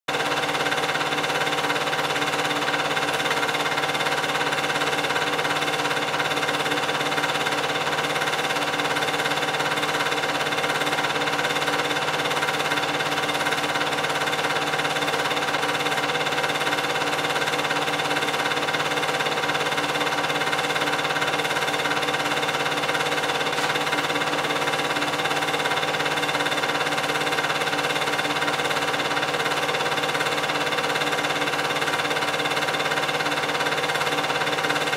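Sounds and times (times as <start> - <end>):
film projector running: 0.1 - 34.9.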